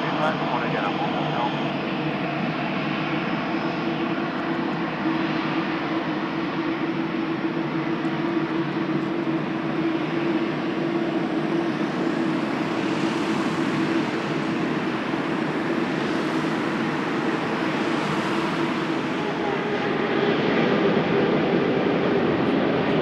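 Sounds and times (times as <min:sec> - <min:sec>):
jet airliner taking off: 0:00.0 - 0:23.0.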